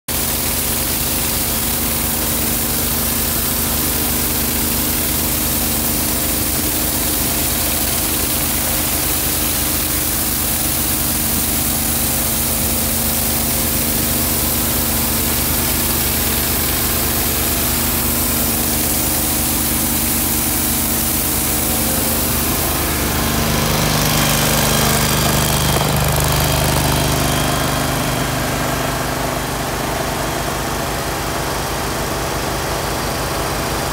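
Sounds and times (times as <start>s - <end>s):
pressure washer engine running: 0.1s - 33.9s
water jets hissing on concrete: 0.1s - 33.9s.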